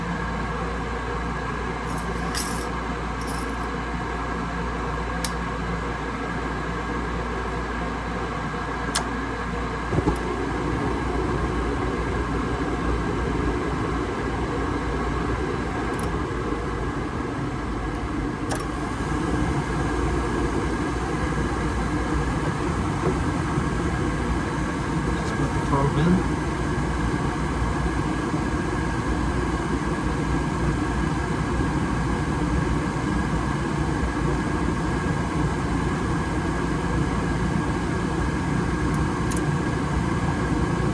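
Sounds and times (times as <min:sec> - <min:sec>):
furnace humming: 0:00.0 - 0:40.9.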